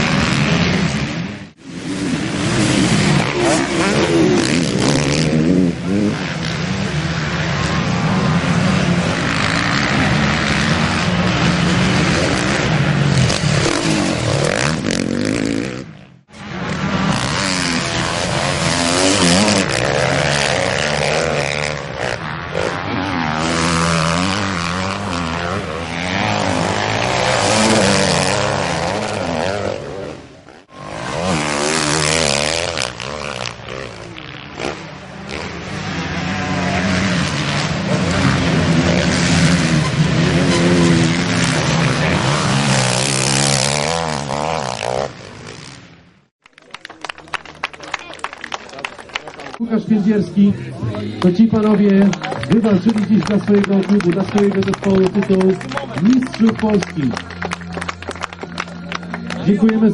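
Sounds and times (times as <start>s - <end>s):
motocross bikes revving past: 0.0s - 46.3s, 48.4s - 59.9s.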